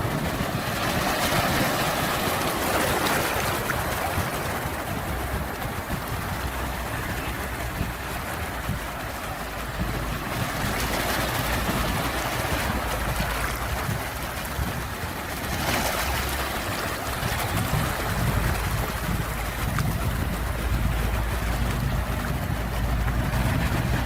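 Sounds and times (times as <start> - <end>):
ocean waves washing: 0.0 - 24.0.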